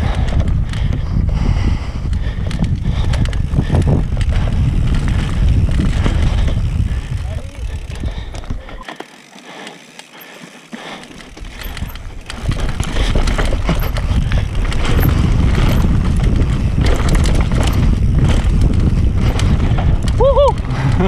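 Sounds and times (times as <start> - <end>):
bike chain and frame rattling: 0.0 - 21.0
bike tyres rolling over dirt: 0.0 - 21.0.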